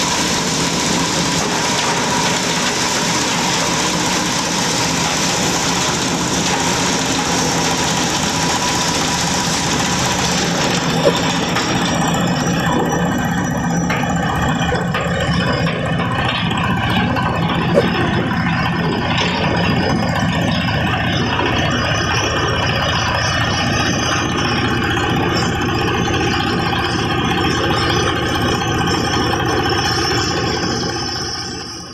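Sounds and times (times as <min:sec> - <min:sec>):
fast rattle: 0:00.0 - 0:31.8
chopper machine droning: 0:00.0 - 0:31.9
diesel engine running: 0:00.0 - 0:31.9.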